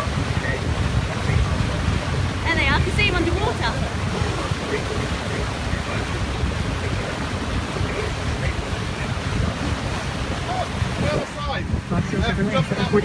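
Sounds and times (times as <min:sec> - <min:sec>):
motorboat wake rushing: 0:00.0 - 0:13.0
wind buffeting microphone: 0:00.0 - 0:13.0.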